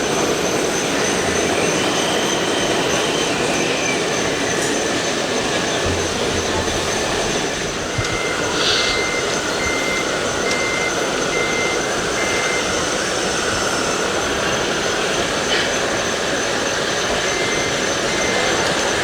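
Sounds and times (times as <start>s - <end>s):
reversing beeps: 0.8s - 14.8s, 15.4s - 19.0s.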